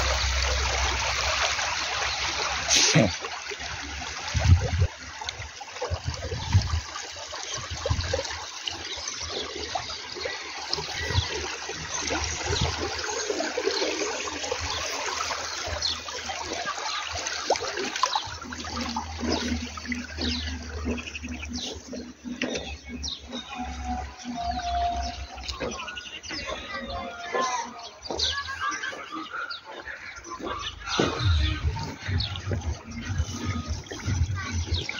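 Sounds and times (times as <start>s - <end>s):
water rushing along ditch: 0.0s - 34.9s.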